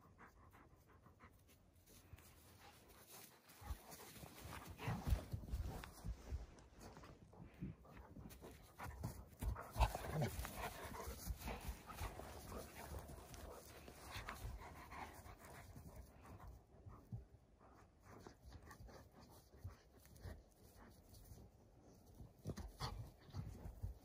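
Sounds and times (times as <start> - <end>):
dogs panting: 0.0 - 24.0.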